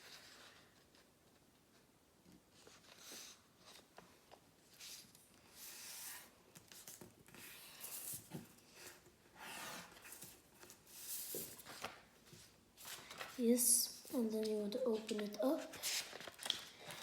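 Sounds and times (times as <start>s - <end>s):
paper rustling and creasing: 0.0s - 17.0s.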